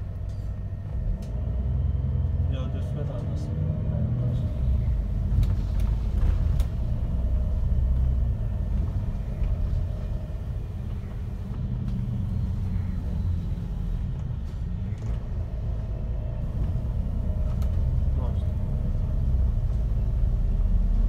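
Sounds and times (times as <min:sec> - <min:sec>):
bus interior rumble: 0:00.0 - 0:21.0.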